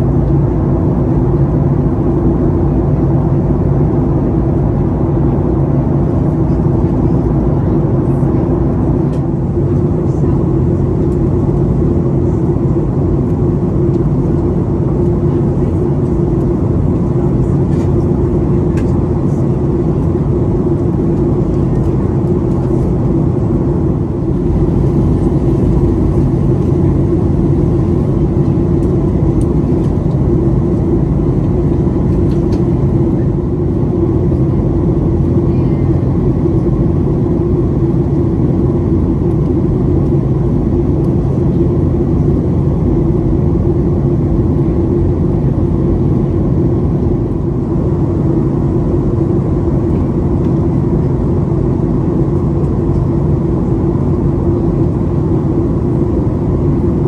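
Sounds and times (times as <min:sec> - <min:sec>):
deep engine drone: 0:00.0 - 0:57.0
low hum: 0:00.0 - 0:57.0
rush of air in aircraft cabin: 0:00.0 - 0:57.0.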